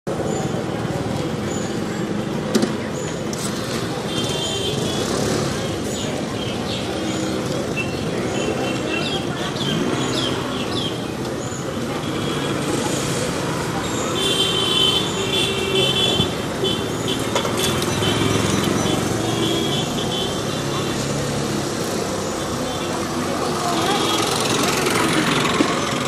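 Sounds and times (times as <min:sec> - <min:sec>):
birds chirping: 0:00.1 - 0:12.6, 0:13.4 - 0:24.5
indistinct voices: 0:00.1 - 0:26.0
scooter and vehicle traffic: 0:00.1 - 0:26.0.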